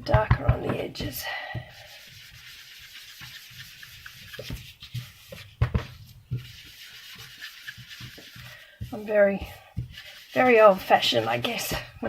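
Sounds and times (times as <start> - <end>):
ink pad scuffing on cardstock: 0.6 - 12.0.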